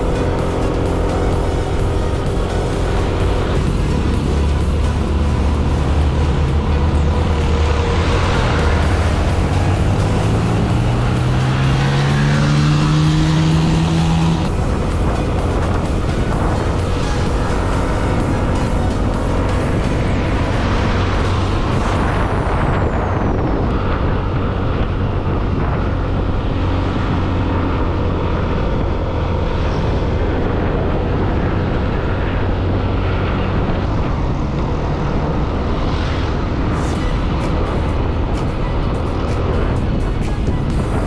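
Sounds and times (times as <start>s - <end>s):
background music: 0.0s - 41.0s
motorcycle engine cruising: 0.0s - 41.0s
wind and road noise: 0.0s - 41.0s.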